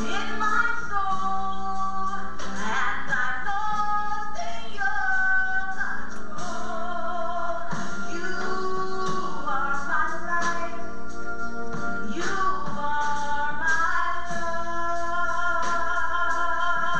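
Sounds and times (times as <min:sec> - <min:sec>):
musical accompaniment: 0:00.0 - 0:16.9
woman singing into microphone: 0:00.0 - 0:16.9.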